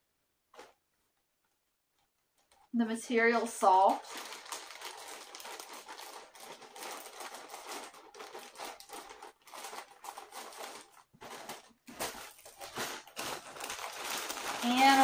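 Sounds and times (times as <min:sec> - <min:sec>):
plastic bag crinkling: 0:02.0 - 0:15.0.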